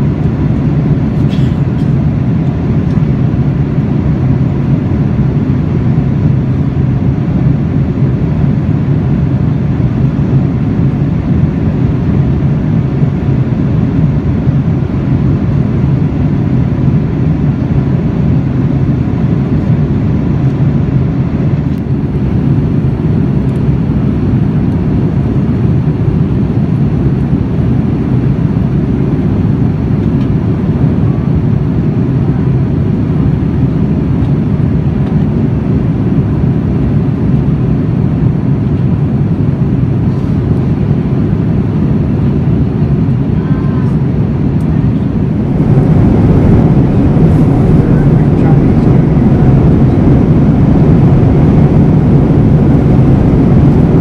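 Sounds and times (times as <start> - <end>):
airplane cabin airflow and engine noise: 0.0 - 54.0
faint steady hum: 0.0 - 54.0.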